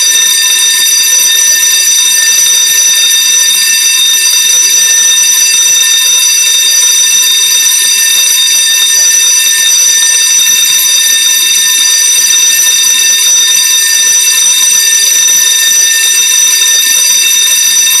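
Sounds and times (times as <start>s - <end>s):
fire alarm bell ringing: 0.0s - 18.0s.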